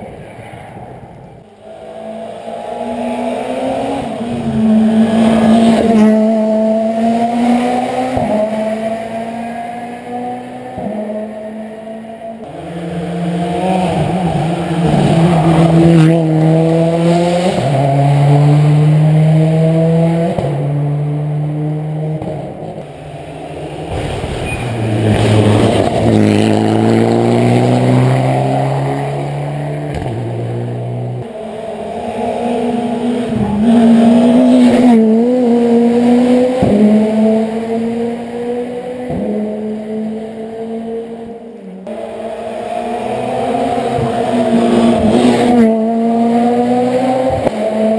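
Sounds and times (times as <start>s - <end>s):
rally car engine revving: 0.0s - 47.9s.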